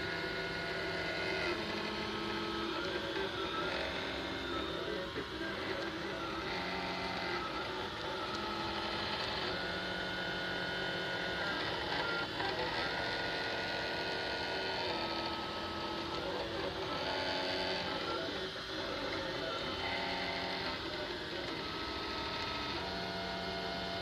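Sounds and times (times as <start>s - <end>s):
three d printer motors humming: 0.0s - 24.0s.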